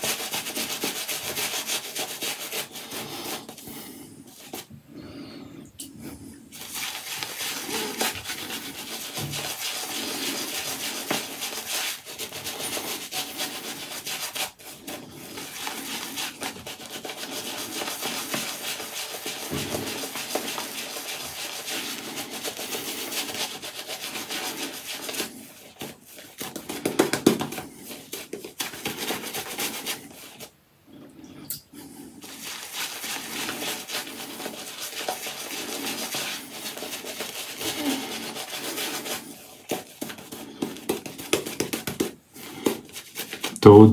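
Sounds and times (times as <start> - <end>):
shaving brush rubbing lather on skin: 0.0 - 4.7, 6.5 - 30.5, 32.2 - 43.6.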